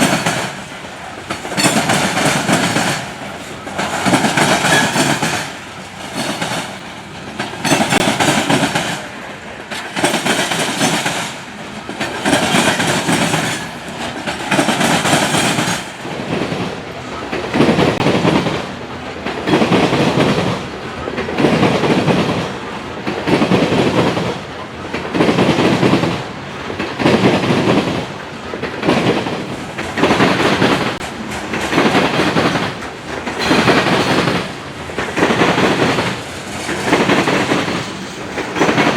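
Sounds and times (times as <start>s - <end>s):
train wheels clattering: 0.0s - 38.9s.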